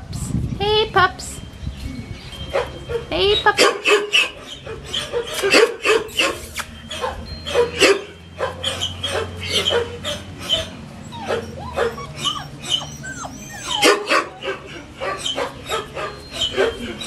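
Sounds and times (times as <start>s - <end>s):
puppies whining: 1.8s - 17.0s
puppies yipping and barking: 2.2s - 17.0s.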